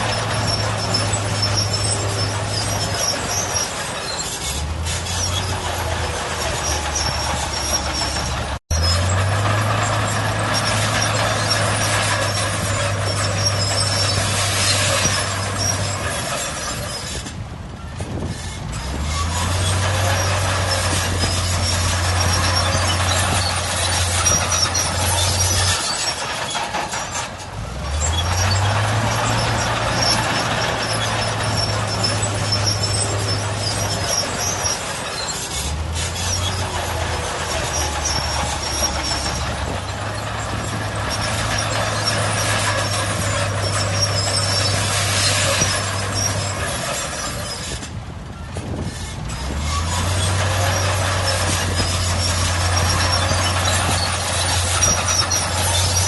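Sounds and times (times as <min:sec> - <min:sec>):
bulldozer diesel engine under load: 0:00.0 - 0:56.0
track and machinery noise: 0:00.0 - 0:56.0.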